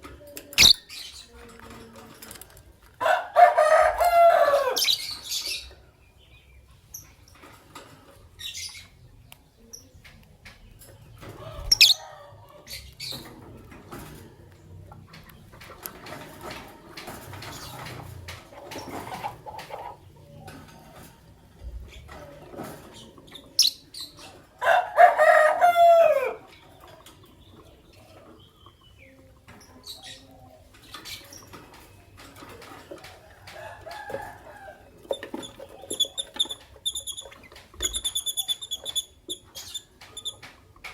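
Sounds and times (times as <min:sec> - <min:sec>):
lovebirds chirping and clicking: 0:00.0 - 0:03.0, 0:03.8 - 0:24.7, 0:25.8 - 0:40.9.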